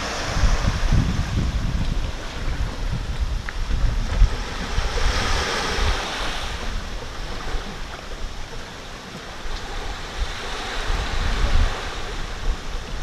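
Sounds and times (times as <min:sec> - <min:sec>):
surf washing on shore: 0:00.0 - 0:13.0
wind rumbling on microphone: 0:00.0 - 0:13.0.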